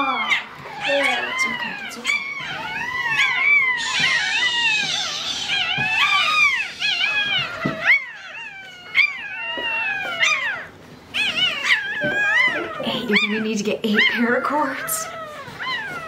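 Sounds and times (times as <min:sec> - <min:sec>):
puppies squealing cries: 0:00.0 - 0:16.0.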